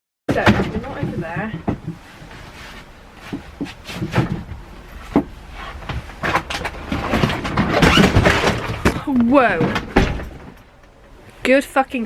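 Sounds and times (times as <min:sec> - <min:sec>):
luggage knocking and bumping: 0:00.3 - 0:10.7.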